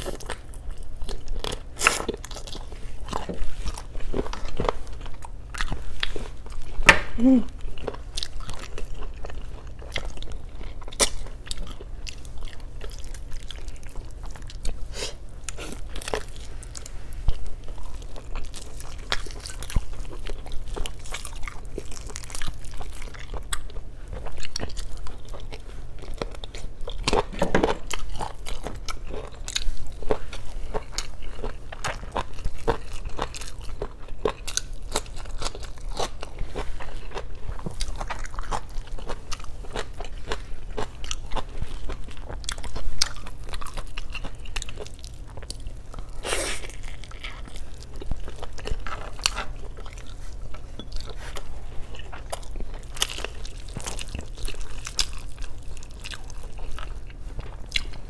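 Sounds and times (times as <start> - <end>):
person chewing and smacking: 0.0 - 58.0.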